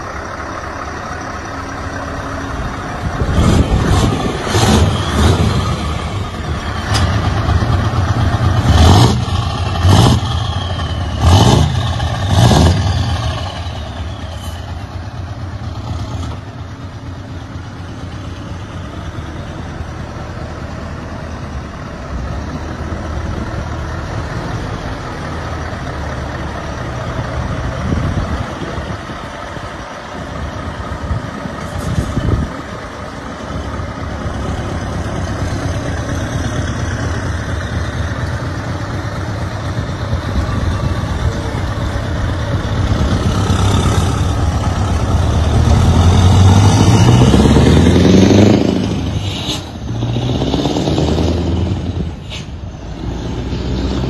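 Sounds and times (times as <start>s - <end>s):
diesel truck engine revving: 0.0s - 54.0s.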